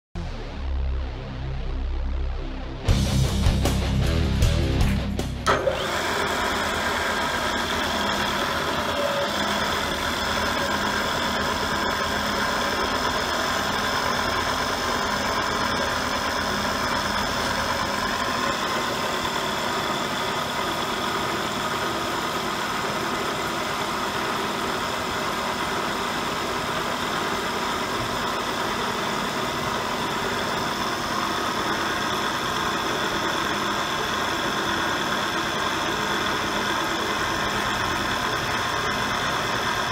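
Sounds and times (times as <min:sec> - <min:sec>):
milling machine humming: 0:05.4 - 0:39.9.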